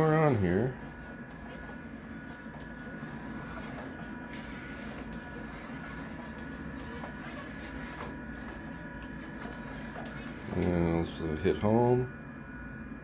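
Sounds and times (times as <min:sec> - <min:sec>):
motors whirring: 0:00.0 - 0:11.1.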